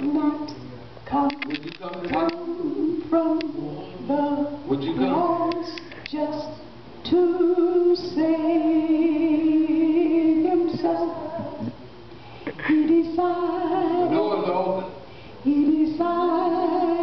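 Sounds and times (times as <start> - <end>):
woman singing unaccompanied: 0.0 - 11.8, 12.6 - 14.8, 15.4 - 17.0.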